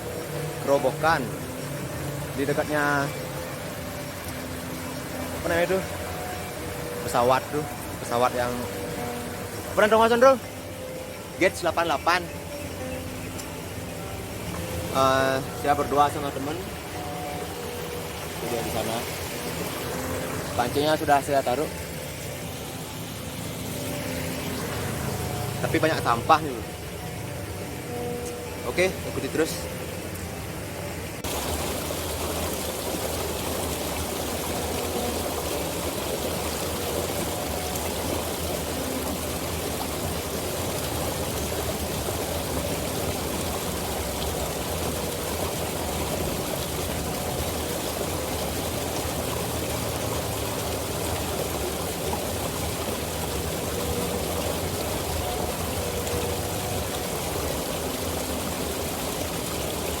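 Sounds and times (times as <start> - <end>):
river water rushing: 0.0 - 60.0.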